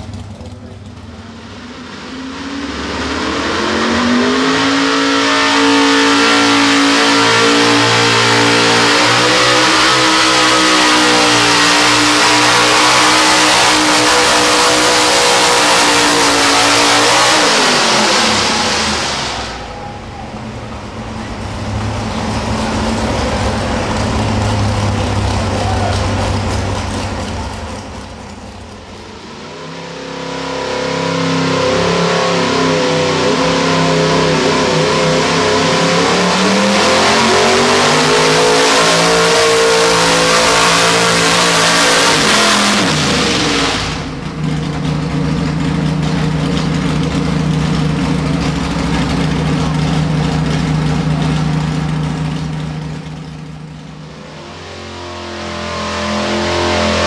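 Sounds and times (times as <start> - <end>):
truck engine at full throttle: 0.0 - 57.0.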